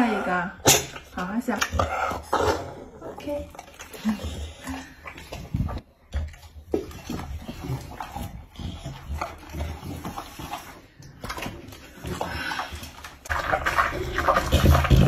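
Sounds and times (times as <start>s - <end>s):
dog chewing wet food: 0.9s - 15.0s.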